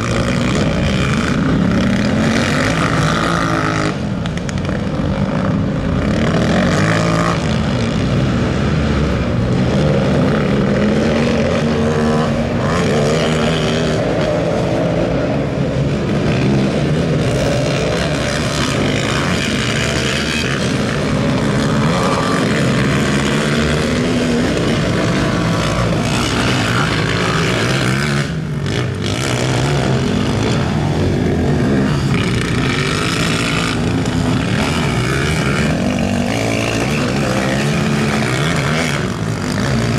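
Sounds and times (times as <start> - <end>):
quad engines revving: 0.0 - 39.9.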